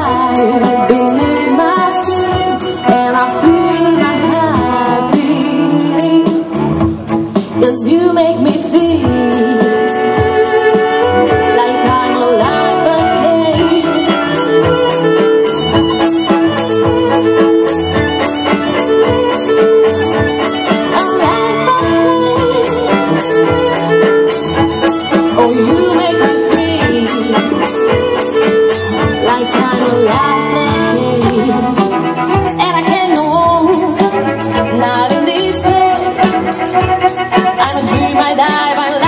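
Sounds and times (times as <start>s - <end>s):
string ensemble playing: 0.0s - 39.0s
steady beat: 6.1s - 39.0s.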